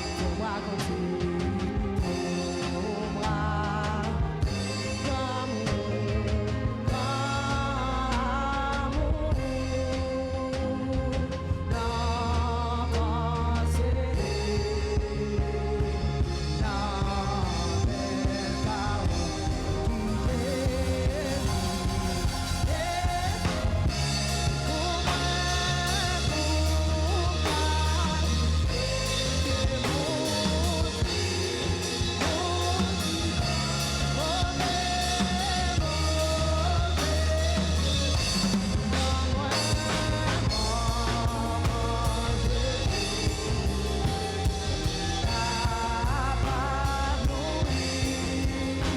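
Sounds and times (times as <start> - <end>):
band with drums bass and keys: 0.0 - 48.9
person singing gospel song: 0.0 - 48.9.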